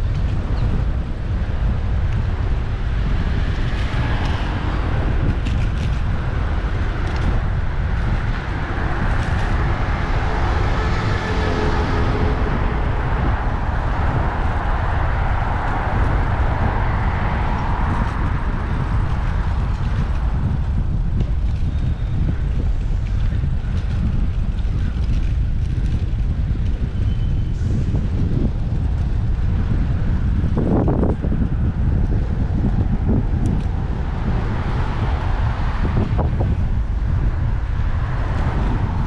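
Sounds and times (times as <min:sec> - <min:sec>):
road traffic passing: 0:00.0 - 0:39.0
wind rumbling on microphone: 0:00.0 - 0:39.0.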